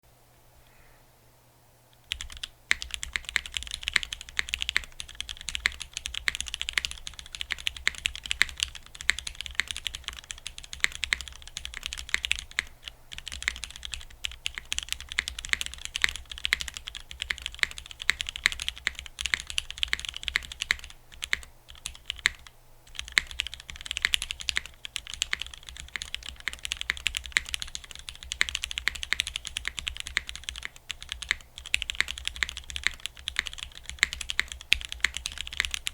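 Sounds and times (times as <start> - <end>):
fast mechanical keyboard typing: 2.0 - 35.9.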